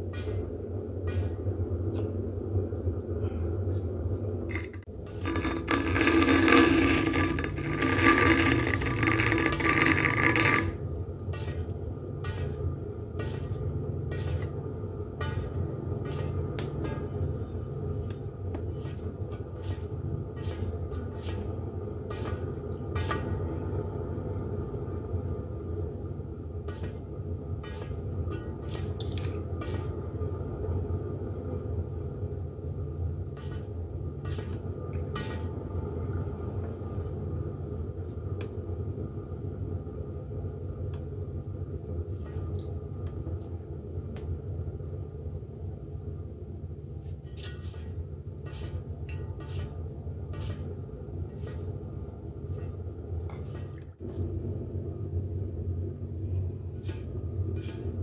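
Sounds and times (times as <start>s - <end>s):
pottery wheel rumbling: 0.0s - 40.0s, 41.4s - 58.0s.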